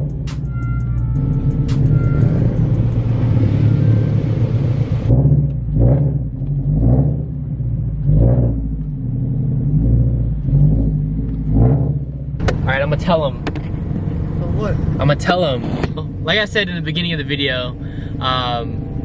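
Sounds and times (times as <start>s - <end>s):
engine revving with low rumble: 0.0s - 19.0s.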